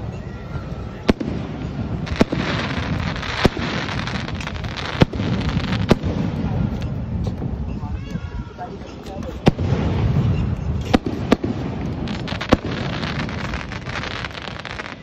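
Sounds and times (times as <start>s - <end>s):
fireworks bangs: 0.0s - 7.7s, 9.3s - 15.0s
fireworks crackling: 0.0s - 15.0s.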